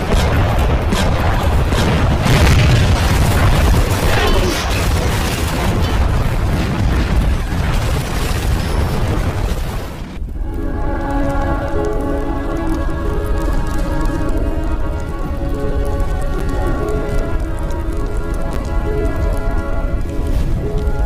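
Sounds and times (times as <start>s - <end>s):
explosions and booms: 0.0s - 21.0s
heavy rumble: 0.0s - 21.0s.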